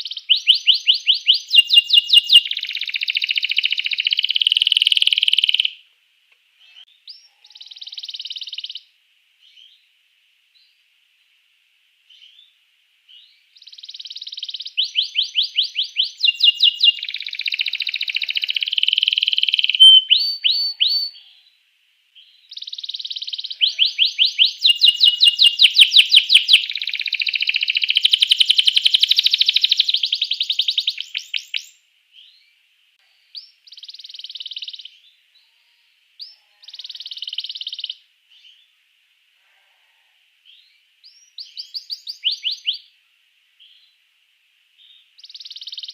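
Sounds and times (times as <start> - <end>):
canary singing trills: 0.0 - 5.8, 6.6 - 9.8, 13.1 - 21.6, 22.2 - 32.5, 33.1 - 38.7, 40.5 - 42.9, 44.8 - 45.9.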